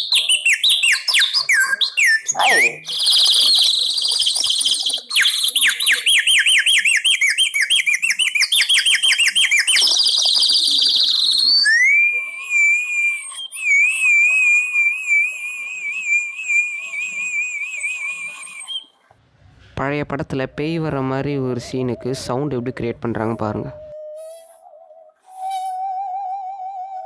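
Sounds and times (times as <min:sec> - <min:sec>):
person whistling bird calls: 0:00.0 - 0:18.9, 0:23.2 - 0:27.0.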